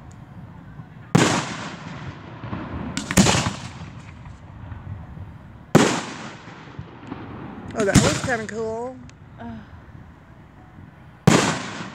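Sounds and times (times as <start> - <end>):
fireworks booming: 0.0 - 11.9.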